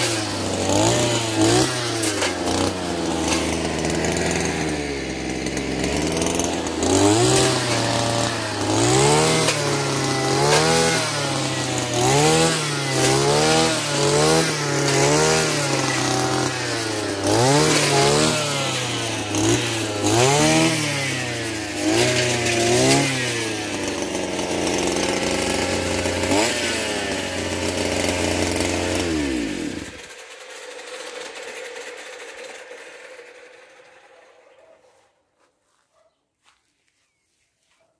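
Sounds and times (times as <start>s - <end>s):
blade cutting into brush: 0.0s - 31.9s
brush cutter engine revving: 0.0s - 35.1s.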